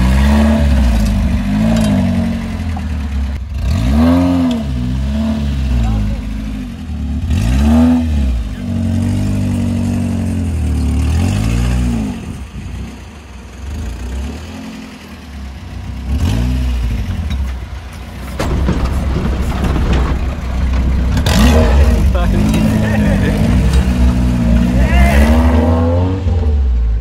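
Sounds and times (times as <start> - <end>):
off-road engine revving: 0.0 - 27.0.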